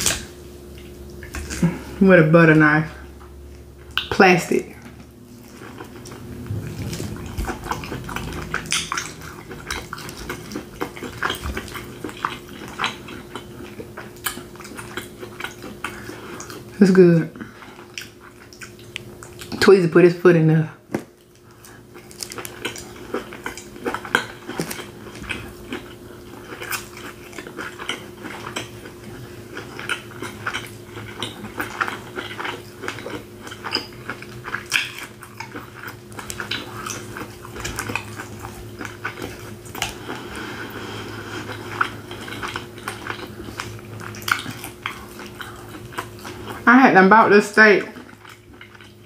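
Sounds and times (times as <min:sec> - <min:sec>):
steady low hum: 0:00.0 - 0:49.0
wet chewing mouth sounds: 0:04.8 - 0:19.6, 0:21.0 - 0:46.7, 0:47.7 - 0:49.0.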